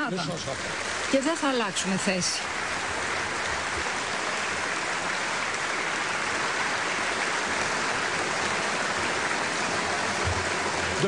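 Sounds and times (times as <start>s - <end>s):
audience clapping: 0.8s - 11.0s.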